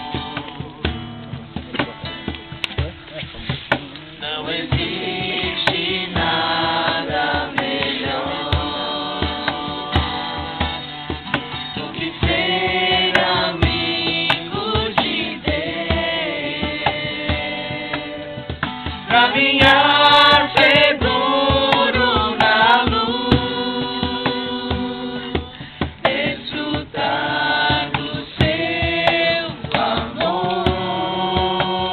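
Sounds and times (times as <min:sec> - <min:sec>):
percussive beat: 0:00.0 - 0:31.9
people singing worship song: 0:03.7 - 0:31.9.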